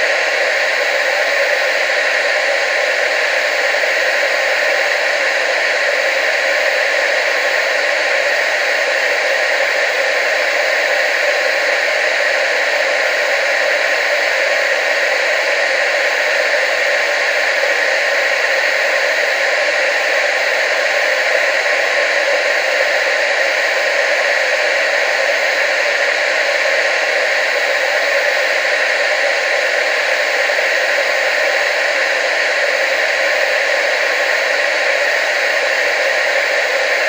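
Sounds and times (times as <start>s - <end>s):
television static hiss: 0.0s - 37.0s.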